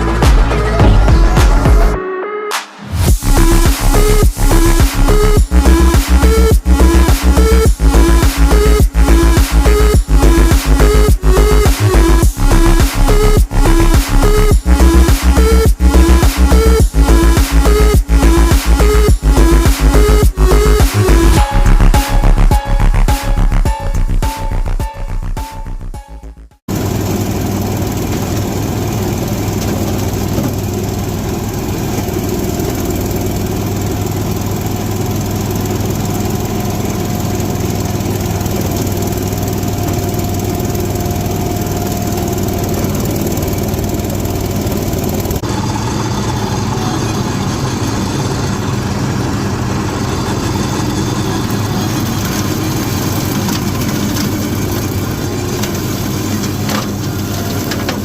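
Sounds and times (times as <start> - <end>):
tractor engine running: 0.0 - 2.0, 2.9 - 58.0.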